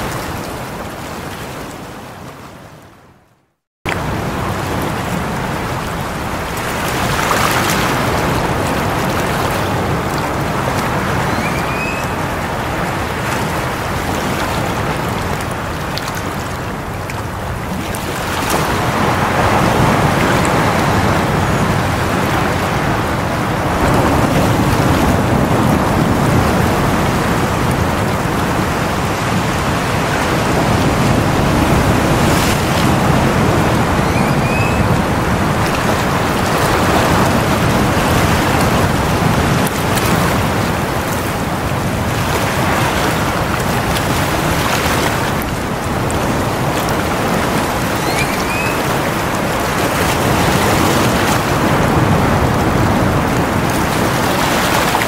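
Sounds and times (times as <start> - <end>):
waves breaking on rocks: 3.9 - 55.0.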